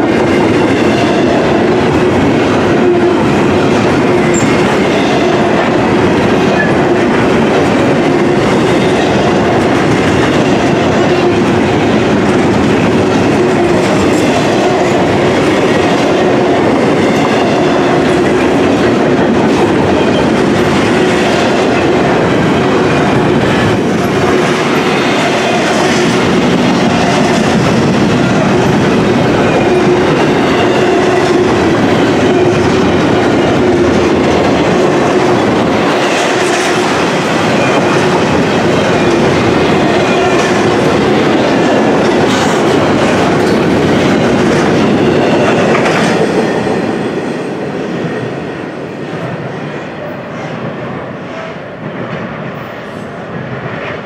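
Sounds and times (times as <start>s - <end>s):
clickety-clack over rail joints: 0.0s - 48.3s, 49.0s - 54.0s
steel wheels rumbling on rail: 0.0s - 54.0s.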